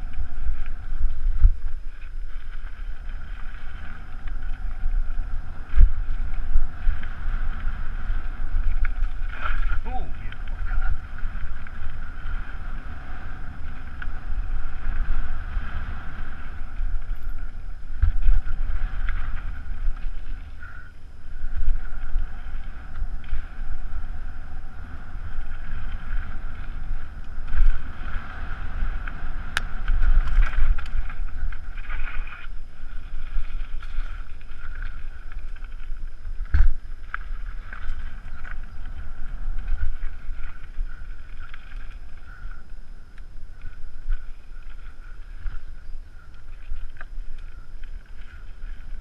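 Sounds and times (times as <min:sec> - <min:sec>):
bike rattling over ground: 0:00.0 - 0:49.0
wind rushing over microphone: 0:00.0 - 0:49.0.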